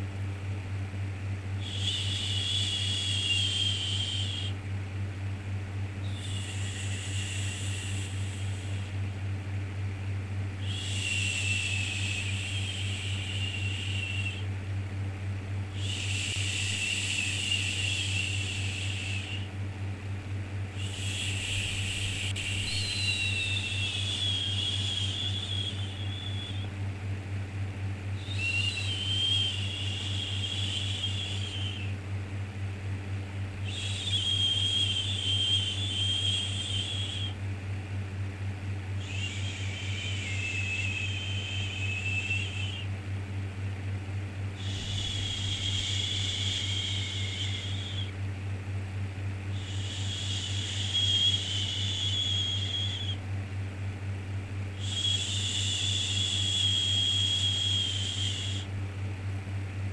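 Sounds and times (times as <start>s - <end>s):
constant low hum: 0.0s - 59.9s.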